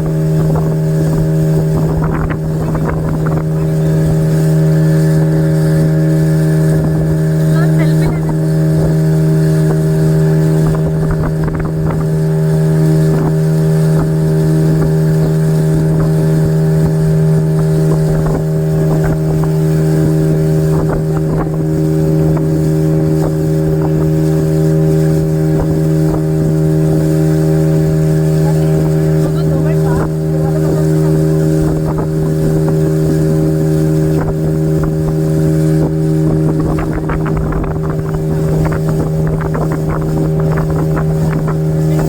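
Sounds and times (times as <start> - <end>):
rushing water noise: 0.0 - 42.0
speedboat engine running: 0.0 - 42.0.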